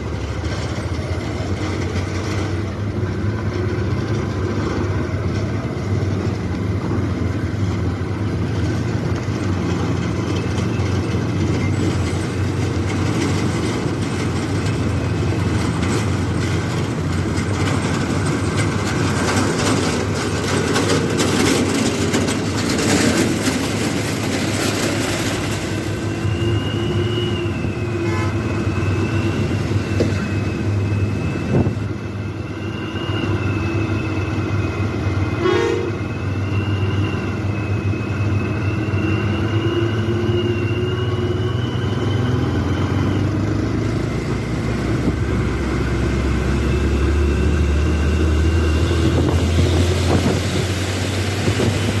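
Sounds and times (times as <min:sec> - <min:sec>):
road noise: 0:00.0 - 0:52.0
vehicle engine rumble: 0:00.0 - 0:52.0.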